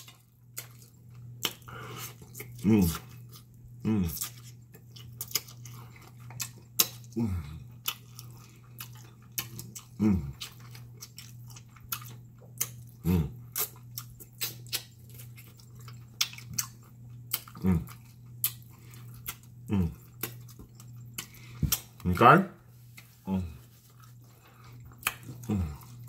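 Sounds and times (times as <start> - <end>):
wet chewing and lip-smacking: 0.0 - 22.1, 22.9 - 26.0
steady low hum: 0.0 - 26.0.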